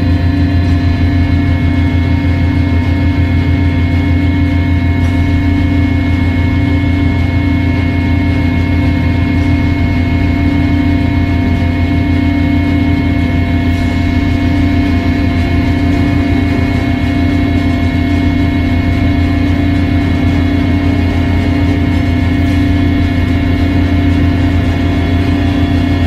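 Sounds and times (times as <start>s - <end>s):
aircraft engine drone: 0.0s - 26.0s
engine whining tones: 0.0s - 26.0s.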